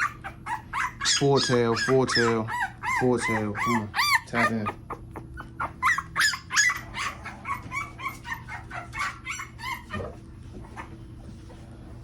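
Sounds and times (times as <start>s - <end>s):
puppy crying: 0.0s - 11.6s.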